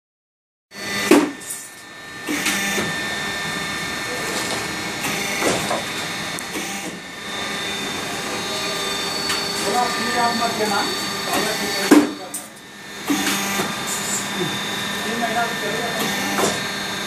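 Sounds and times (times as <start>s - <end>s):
machine running: 0.7s - 17.0s.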